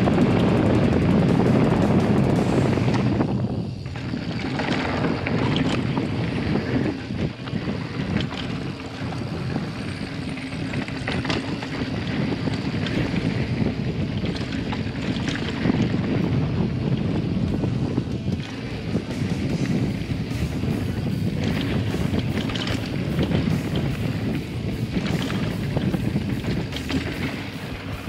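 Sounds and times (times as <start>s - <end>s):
bike clicks and clatters: 0.0s - 28.0s
bike tyres rumbling: 0.0s - 28.0s
wind on camera: 0.0s - 28.0s.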